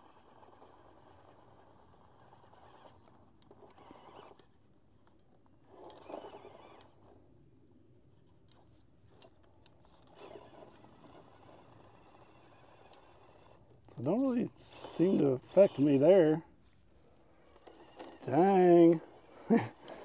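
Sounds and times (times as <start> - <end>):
faint scraping of toy car tyres: 0.0 - 7.2, 7.9 - 20.0.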